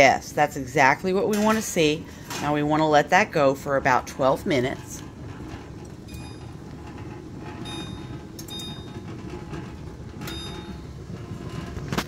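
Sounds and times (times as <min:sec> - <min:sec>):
water boiling: 0:00.0 - 0:12.0.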